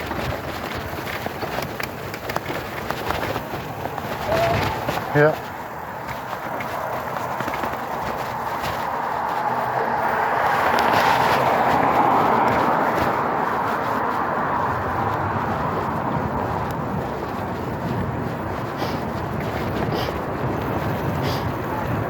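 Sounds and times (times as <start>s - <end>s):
bike road and wind noise: 0.0s - 22.0s.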